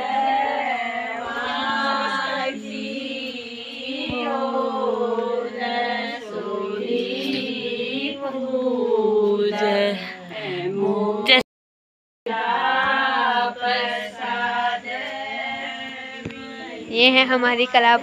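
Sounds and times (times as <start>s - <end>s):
women singing a folk song: 0.0s - 11.4s, 12.3s - 18.0s.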